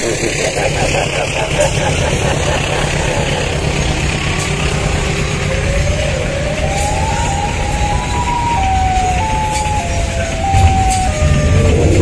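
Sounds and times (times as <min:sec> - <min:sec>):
freight train wheels rumbling on rail: 0:00.0 - 0:12.0
siren wail rising in pitch: 0:01.5 - 0:12.0.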